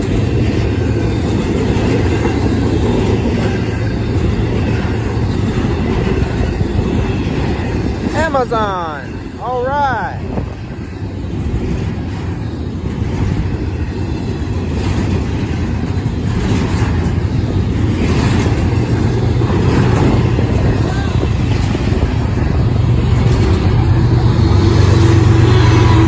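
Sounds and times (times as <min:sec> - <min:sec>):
locomotive diesel engine hum: 0:00.0 - 0:26.0
train wheels rumbling on rails: 0:00.0 - 0:26.0.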